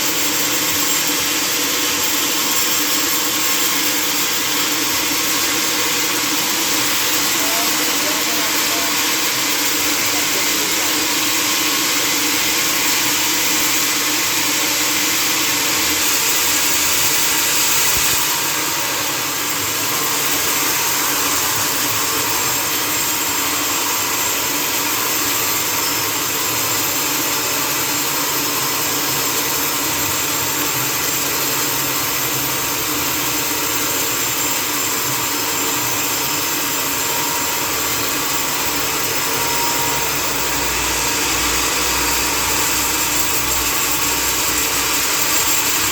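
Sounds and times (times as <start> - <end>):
sawmill machinery running: 0.0 - 45.9.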